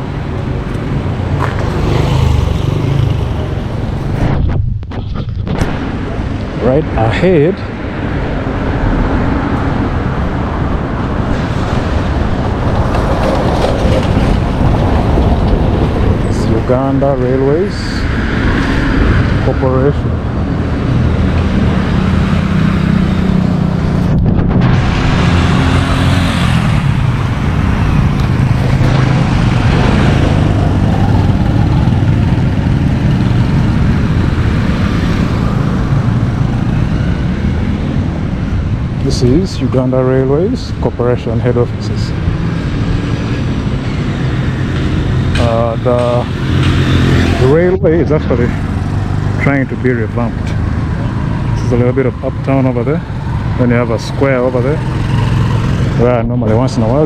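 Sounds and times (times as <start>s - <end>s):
road noise: 0.0s - 57.0s
vehicle engines passing: 0.0s - 57.0s.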